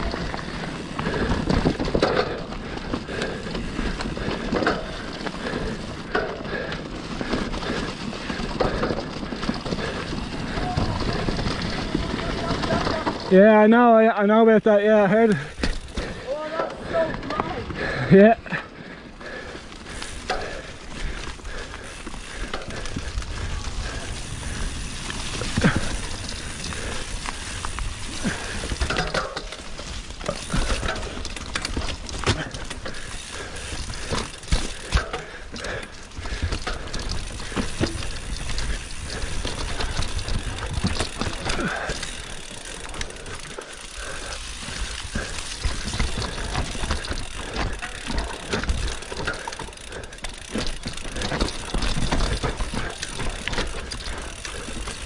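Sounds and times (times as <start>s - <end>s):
bike knocking and rattling: 0.0s - 55.0s
bike tyres rolling on dirt: 0.0s - 55.0s.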